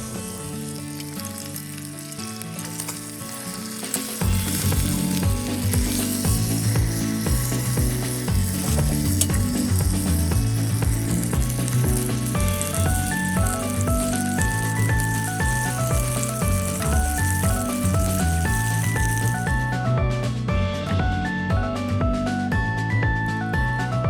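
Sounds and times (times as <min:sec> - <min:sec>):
food sizzling over campfire: 0:00.0 - 0:19.9
background music with bass beat: 0:04.2 - 0:24.0.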